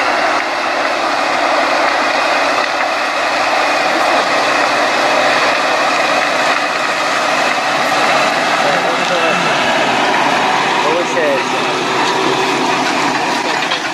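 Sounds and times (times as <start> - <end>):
tractor mulcher grinding trees: 0.0 - 13.9.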